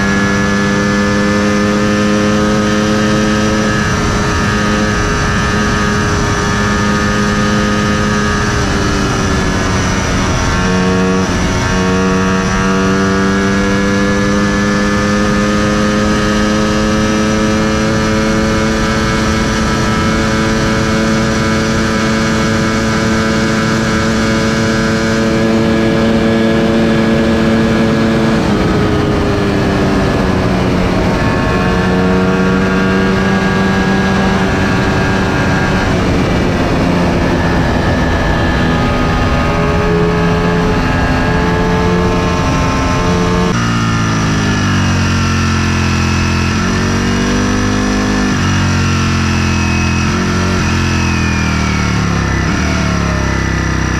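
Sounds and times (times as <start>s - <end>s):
motorcycle engine at high revs: 0.0s - 53.9s
wind and road noise: 0.0s - 53.9s.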